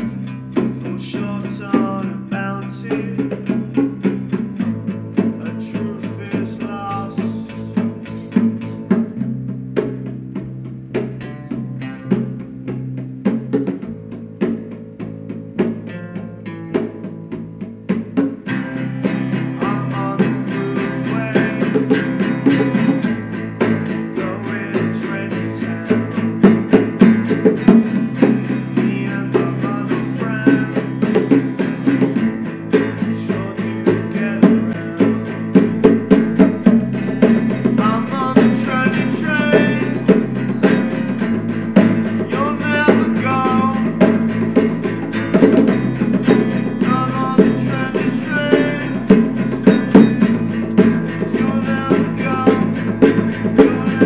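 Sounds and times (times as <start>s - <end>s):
band playing a song: 0.0s - 54.0s
steady drum beat: 0.0s - 54.0s.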